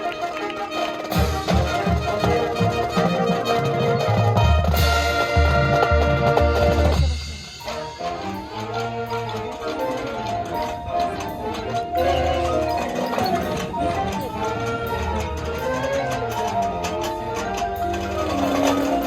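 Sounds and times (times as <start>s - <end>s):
marching band brass: 0.0s - 19.0s.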